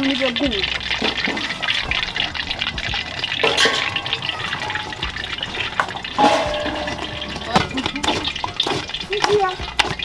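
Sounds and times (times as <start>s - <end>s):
paddle sloshing porridge in a pot: 0.0s - 10.0s.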